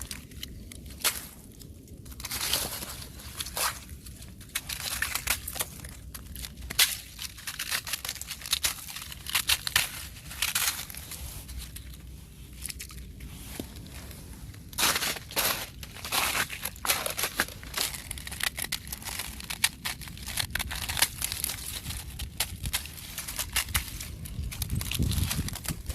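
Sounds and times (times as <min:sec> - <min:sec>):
ice crackling underfoot: 0:00.0 - 0:25.9.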